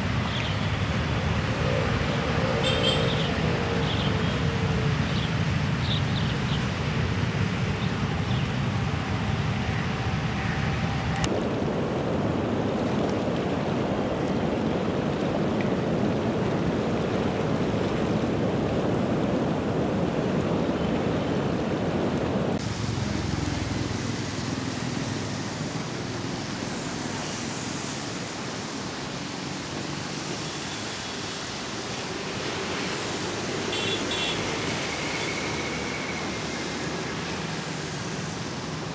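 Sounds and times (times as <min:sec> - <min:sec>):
flooded river rushing: 0:00.0 - 0:38.9.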